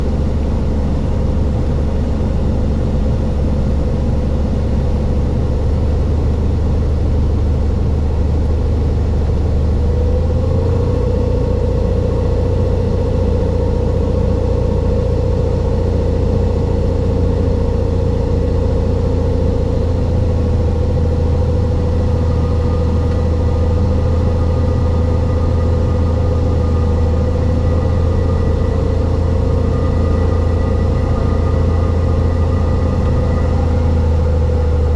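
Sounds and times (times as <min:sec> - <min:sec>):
propeller plane engine droning: 0:00.0 - 0:34.9.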